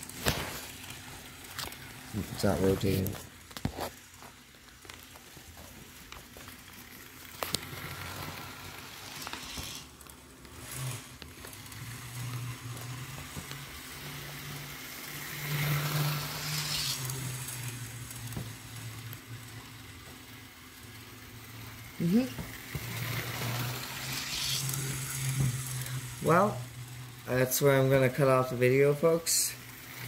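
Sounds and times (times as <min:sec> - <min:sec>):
model train wheels rattling on rails: 0:04.0 - 0:30.0
low motor hum: 0:04.4 - 0:28.6.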